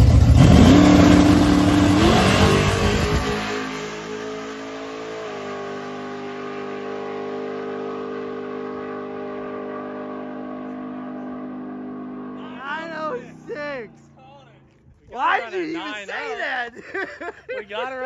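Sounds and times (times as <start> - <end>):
vee eight engine at full throttle: 0.0 - 15.0.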